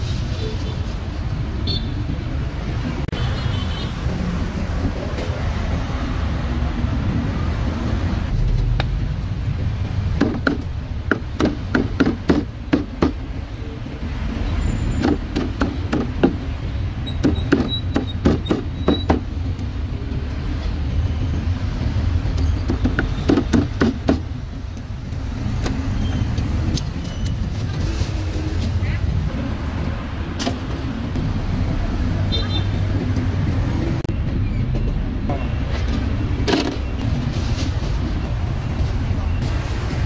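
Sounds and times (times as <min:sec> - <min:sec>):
traffic rumble: 0:00.0 - 0:40.0.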